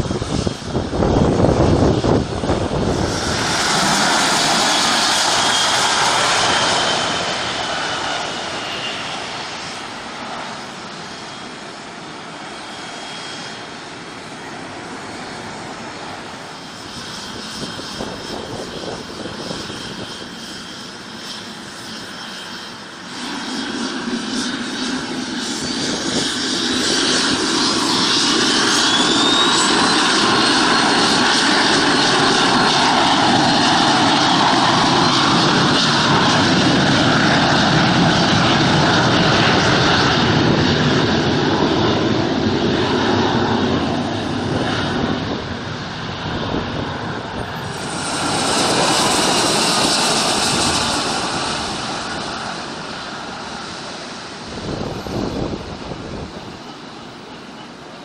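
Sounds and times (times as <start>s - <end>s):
airplane engine whine: 0.0s - 58.0s.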